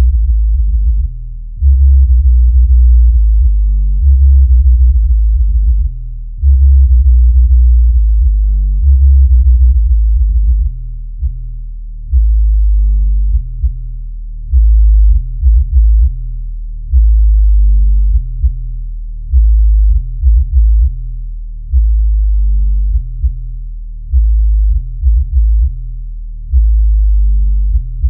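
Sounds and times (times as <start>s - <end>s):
deep bass notes through woofer: 0.0s - 28.0s.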